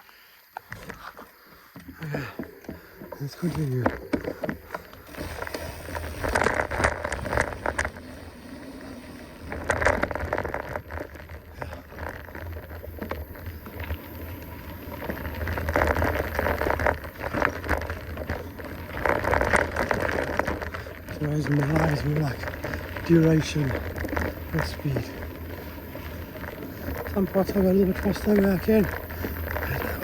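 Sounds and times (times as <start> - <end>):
bike tyres crunching on dirt: 0.0 - 30.0
bike rattling: 0.1 - 30.0.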